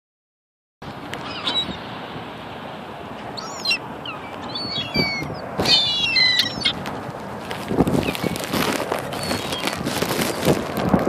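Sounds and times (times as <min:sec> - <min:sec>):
gulls calling: 0:00.8 - 0:10.6.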